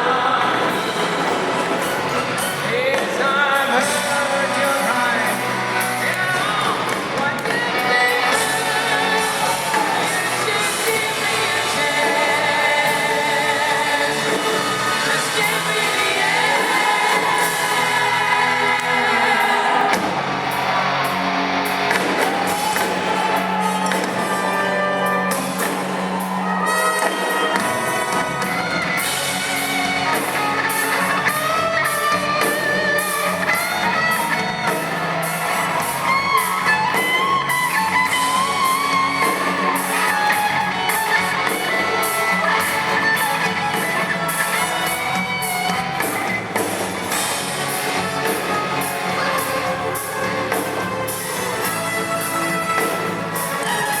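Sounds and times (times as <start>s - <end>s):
live rock band: 0.0s - 54.0s
singer: 0.0s - 54.0s.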